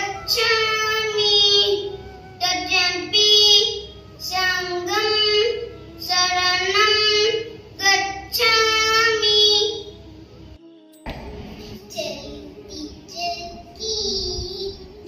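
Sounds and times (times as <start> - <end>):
child singing a prayer chant: 0.0 - 10.0, 10.8 - 15.0.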